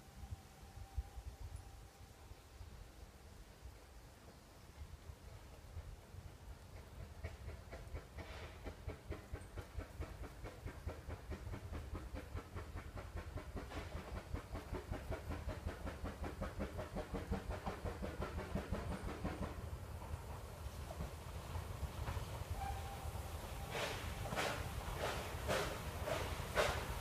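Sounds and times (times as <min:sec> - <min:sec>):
steam train running past: 0:00.0 - 0:27.0
steam hiss: 0:03.7 - 0:27.0.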